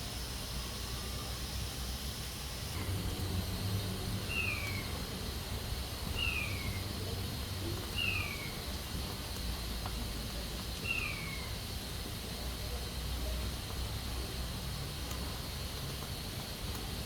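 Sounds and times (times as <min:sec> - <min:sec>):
pressure cooker hissing: 0:00.0 - 0:17.0.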